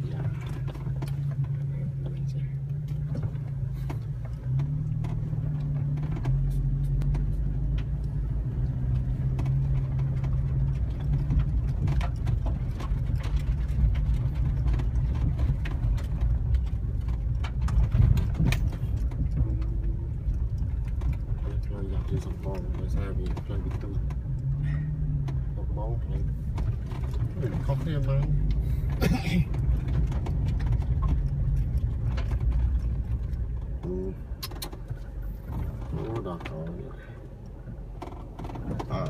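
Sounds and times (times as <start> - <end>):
car engine running: 0.0 - 39.0
car knocking over bumps: 0.0 - 39.0
road rumble: 0.0 - 39.0.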